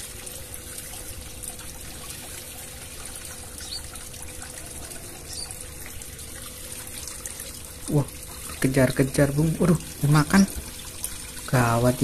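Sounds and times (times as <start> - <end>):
water trickling in pond: 0.0 - 12.0.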